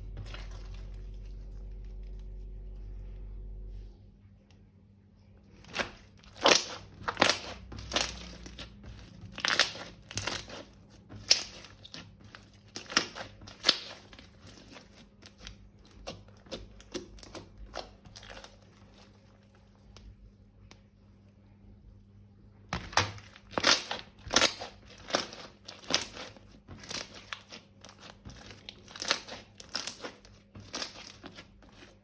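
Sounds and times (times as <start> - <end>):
slime and plastic squishing: 0.0 - 3.6, 5.4 - 21.0, 22.7 - 32.0.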